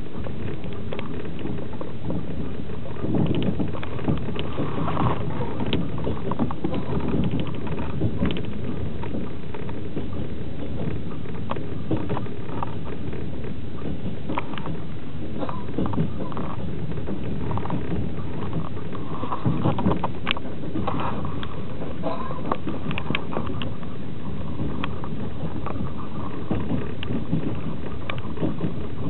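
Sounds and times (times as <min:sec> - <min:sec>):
train wheels rumbling: 0:00.0 - 0:29.0
clicks and rattles: 0:00.2 - 0:14.8, 0:15.4 - 0:29.0.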